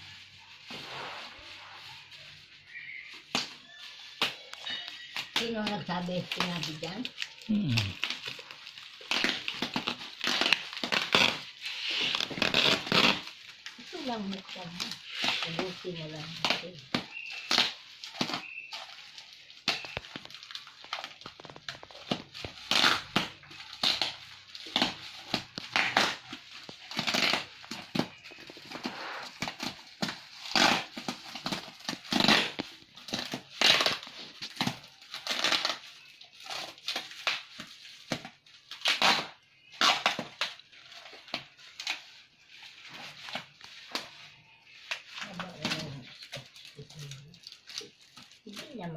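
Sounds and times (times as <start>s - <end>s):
bubble wrap and tape crinkling: 0.0s - 48.9s.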